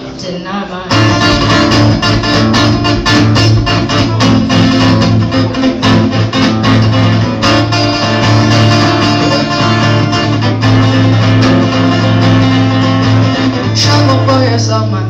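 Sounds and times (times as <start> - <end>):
acoustic guitar strumming: 0.9 - 15.0.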